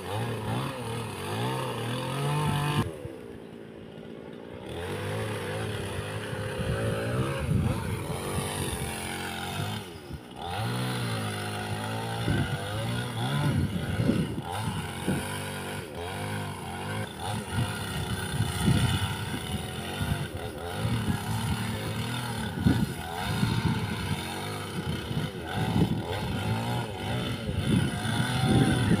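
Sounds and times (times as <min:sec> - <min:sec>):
chainsaw revving while cutting: 0:00.0 - 0:29.0.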